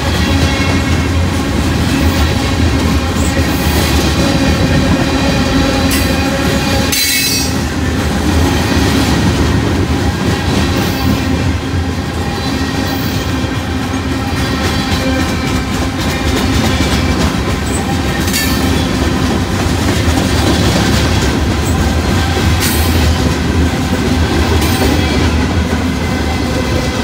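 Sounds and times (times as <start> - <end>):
clickety-clack of train trucks: 0.0 - 27.0
train wheels rumbling on rail: 0.0 - 27.0.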